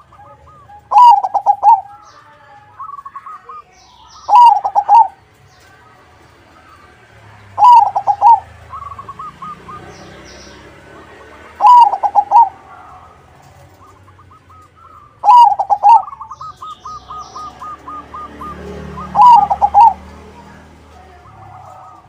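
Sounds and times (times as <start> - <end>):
dove cooing song: 0.0 - 22.0.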